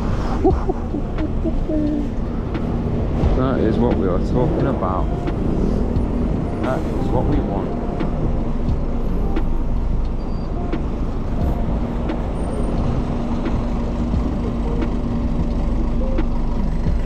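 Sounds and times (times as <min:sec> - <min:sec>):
road traffic rumble: 0:00.0 - 0:17.0
vehicle engine humming: 0:00.0 - 0:17.0.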